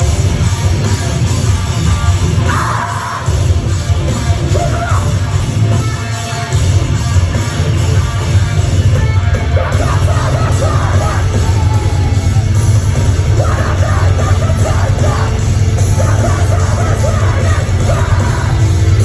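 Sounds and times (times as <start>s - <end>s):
yelled vocals: 0.0s - 5.8s, 8.8s - 19.0s
heavy rock band playing live: 0.0s - 19.0s.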